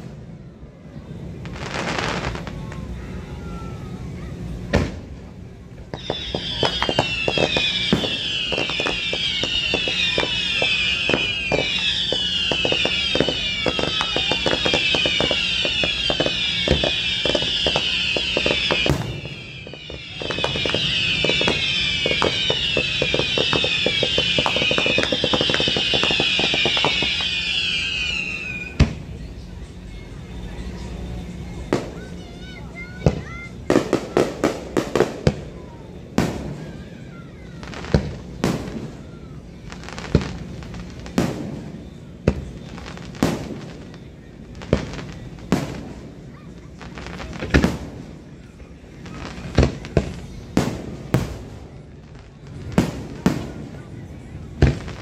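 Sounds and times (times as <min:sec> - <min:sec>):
fireworks crackling: 0:00.0 - 0:55.0
firework bangs: 0:01.4 - 0:03.7, 0:04.7 - 0:29.2, 0:31.7 - 0:55.0.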